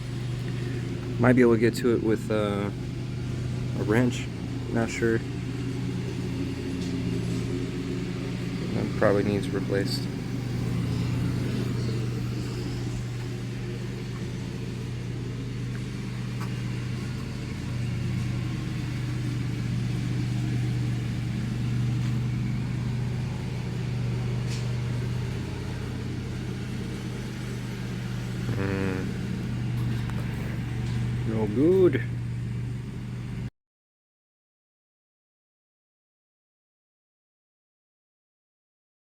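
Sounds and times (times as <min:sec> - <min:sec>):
low motor hum: 0:00.0 - 0:33.5.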